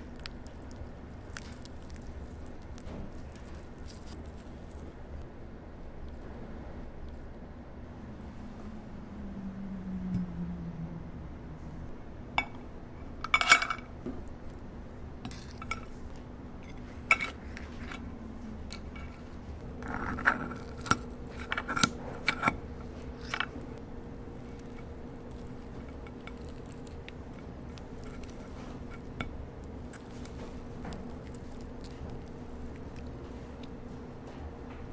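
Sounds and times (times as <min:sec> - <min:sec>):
low hum: 0:00.0 - 0:34.9.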